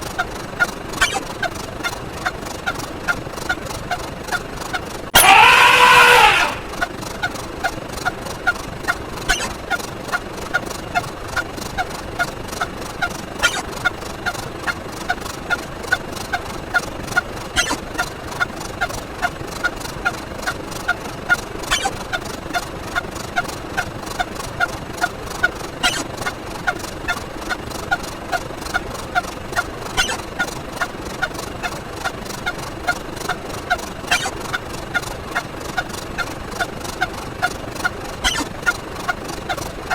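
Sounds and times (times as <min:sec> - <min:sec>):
honking gobble sound effect: 0:00.2 - 0:02.4, 0:04.3 - 0:07.3, 0:08.9 - 0:16.4, 0:17.6 - 0:20.6, 0:21.3 - 0:39.7.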